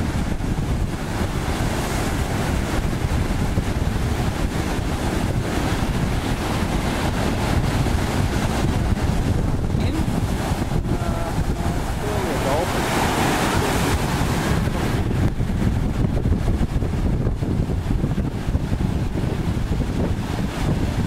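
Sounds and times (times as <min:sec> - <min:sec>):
water rushing: 0:00.0 - 0:21.0
wind buffeting microphone: 0:00.0 - 0:21.0.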